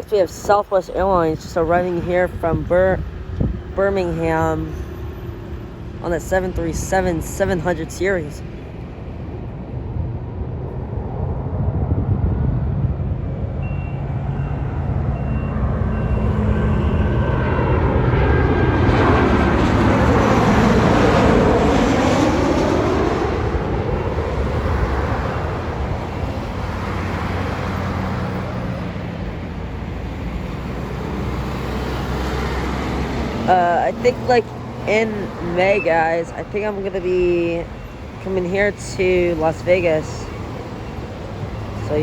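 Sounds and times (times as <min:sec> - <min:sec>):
jet airliner roar passing by: 0:00.0 - 0:42.0.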